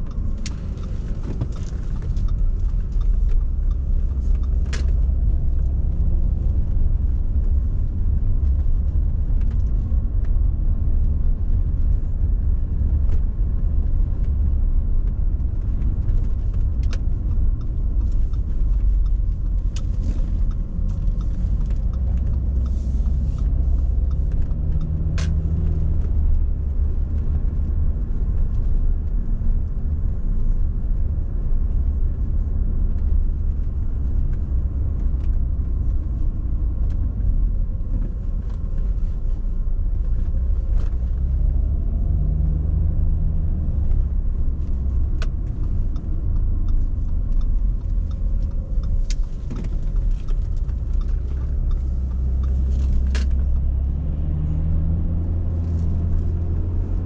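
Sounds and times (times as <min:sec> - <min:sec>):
engine and road rumble in car: 0:00.0 - 0:57.0.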